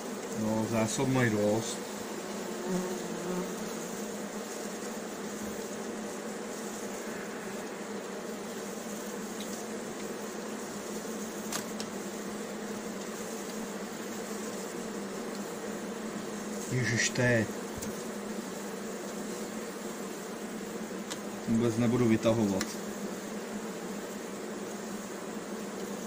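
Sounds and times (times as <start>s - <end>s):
bees humming: 0.0s - 26.0s.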